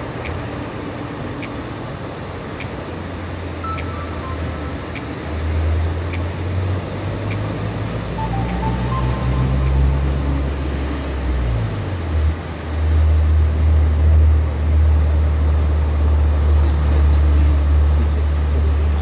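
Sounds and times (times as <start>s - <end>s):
waves breaking: 0.0s - 19.0s.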